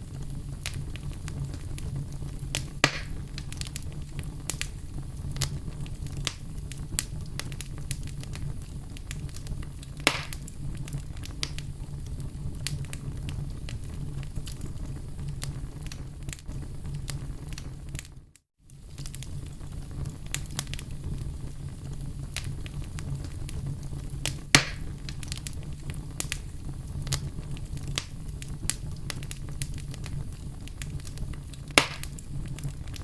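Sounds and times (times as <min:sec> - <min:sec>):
fire rumbling and crackling: 0:00.0 - 0:33.0
loud fire pops: 0:00.0 - 0:33.0.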